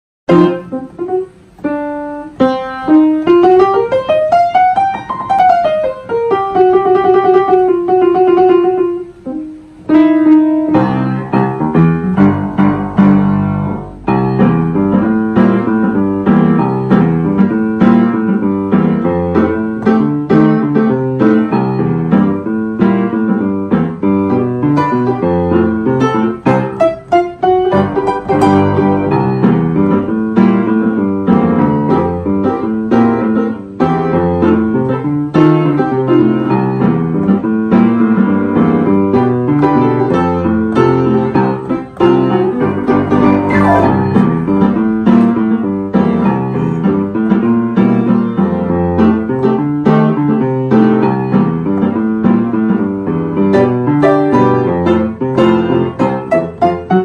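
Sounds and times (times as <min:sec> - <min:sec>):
upright piano playing: 0:00.3 - 0:57.0.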